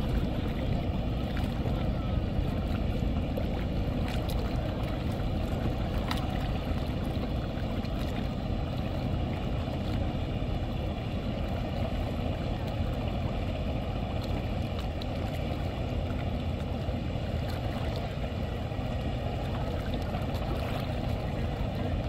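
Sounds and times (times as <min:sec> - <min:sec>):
boat diesel engines droning: 0:00.0 - 0:22.0
wind noise on microphone: 0:00.0 - 0:22.0.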